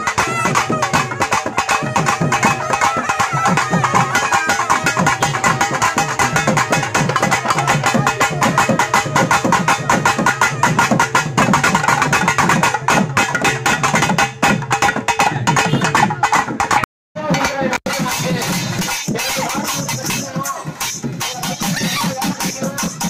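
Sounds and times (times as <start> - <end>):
loud music with fast drumming: 0.0 - 23.0.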